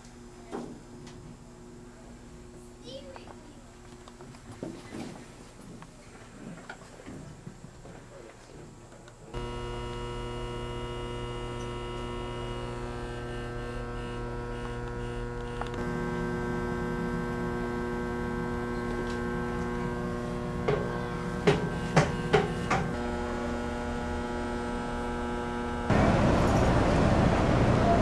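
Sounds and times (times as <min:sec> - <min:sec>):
steady machine hum: 0:00.0 - 0:04.5, 0:09.2 - 0:28.0.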